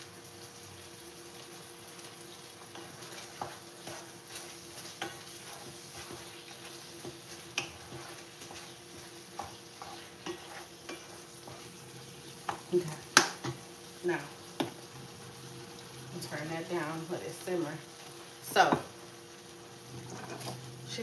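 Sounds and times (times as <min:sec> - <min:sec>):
food sizzling in a skillet: 0:00.0 - 0:21.0
wooden spatula scraping pan: 0:02.0 - 0:18.9, 0:19.8 - 0:21.0.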